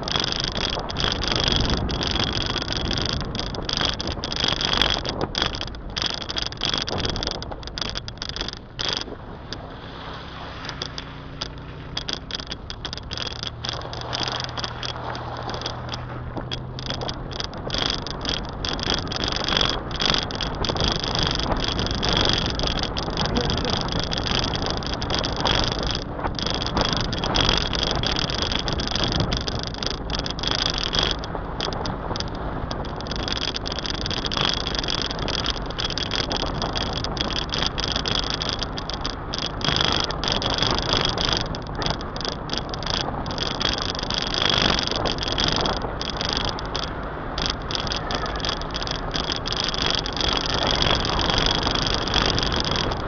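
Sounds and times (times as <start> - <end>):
car engine running: 0.0 - 53.0
car road and wind noise: 0.0 - 53.0.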